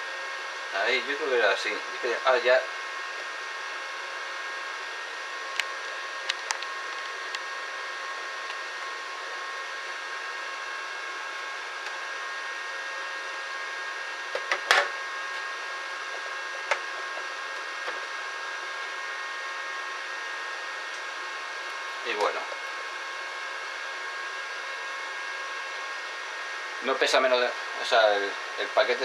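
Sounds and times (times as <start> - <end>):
welder cooling fan whirring: 0.0 - 29.0.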